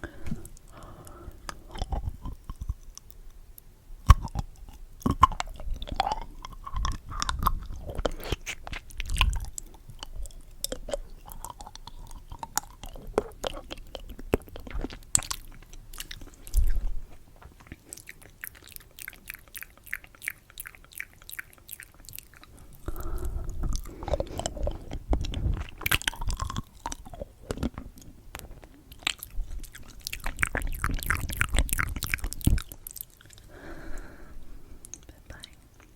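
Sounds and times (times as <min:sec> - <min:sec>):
mouth clicks: 0:00.0 - 0:16.9, 0:17.8 - 0:28.1, 0:29.0 - 0:34.1
candy being chewed: 0:00.0 - 0:34.1, 0:34.8 - 0:35.9.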